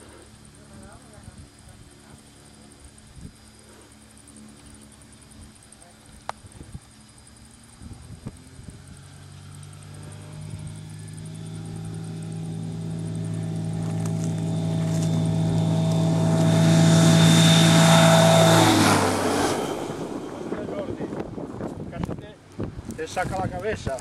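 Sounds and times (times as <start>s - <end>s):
aeroplane engine and propeller: 0.0s - 24.0s.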